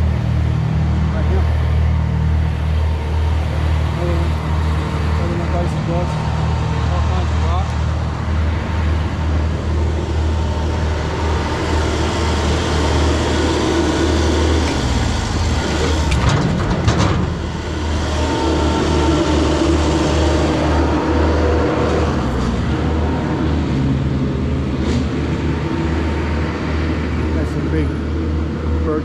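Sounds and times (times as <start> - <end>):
large machine engine humming: 0.0 - 29.0.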